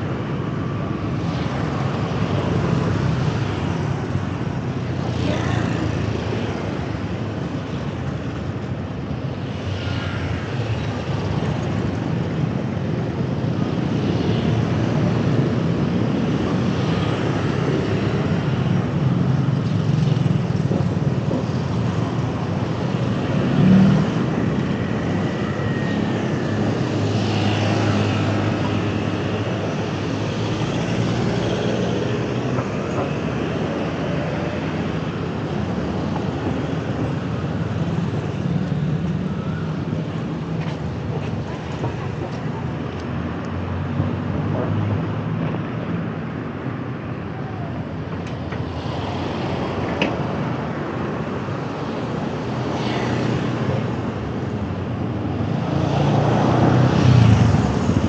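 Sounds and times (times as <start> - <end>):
city road traffic: 0.0 - 58.0.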